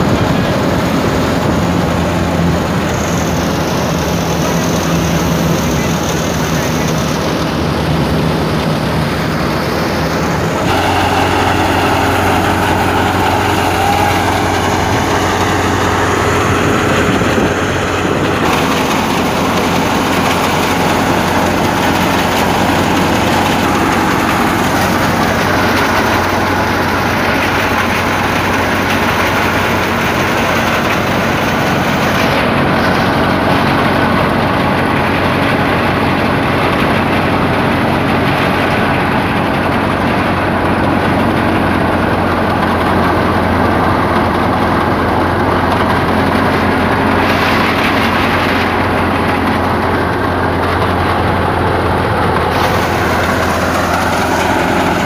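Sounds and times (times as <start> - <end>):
threshing drum clatter and rush: 0.0 - 55.0
tractor engine hum: 0.0 - 55.0.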